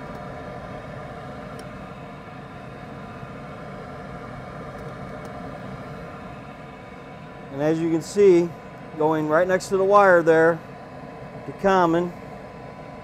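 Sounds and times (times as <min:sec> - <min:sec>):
furnace motor humming with whine: 0:00.0 - 0:13.0.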